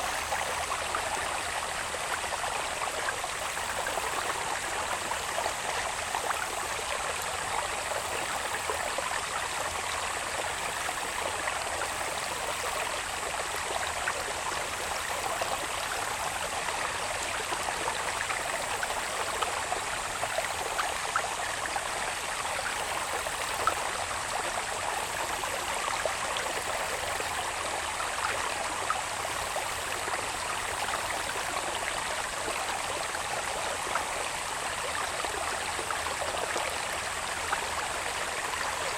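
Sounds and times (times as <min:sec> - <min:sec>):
shallow water babbling: 0:00.0 - 0:38.9.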